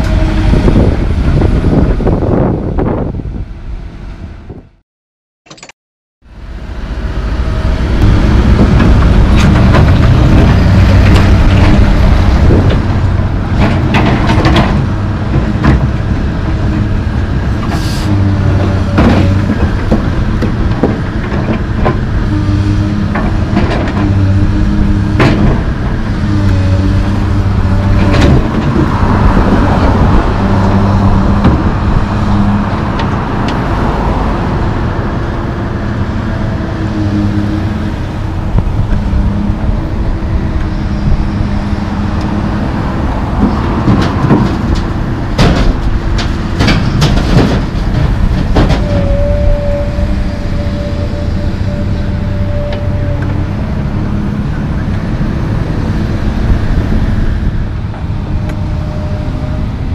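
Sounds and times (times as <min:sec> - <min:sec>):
excavator diesel engine running: 0:00.0 - 0:04.4, 0:06.3 - 0:59.9.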